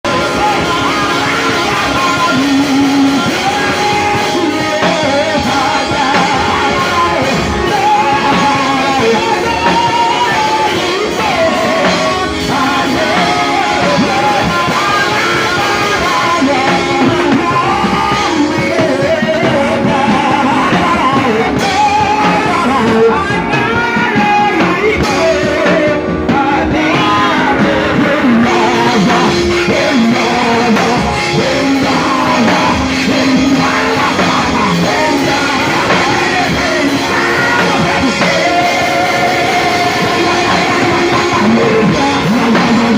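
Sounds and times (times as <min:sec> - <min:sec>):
worship music with singing: 0:00.0 - 0:42.9.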